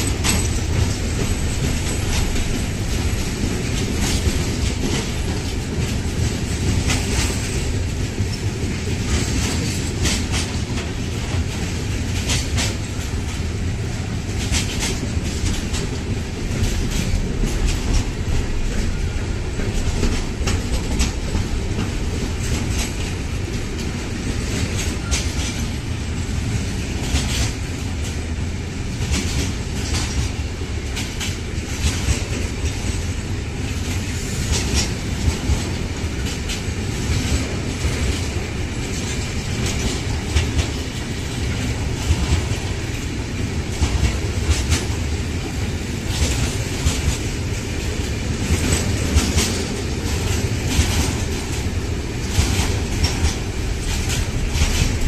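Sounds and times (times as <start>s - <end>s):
wheels clicking over rails: 0.0s - 28.2s, 28.9s - 55.0s
freight train rumbling past: 0.0s - 55.0s.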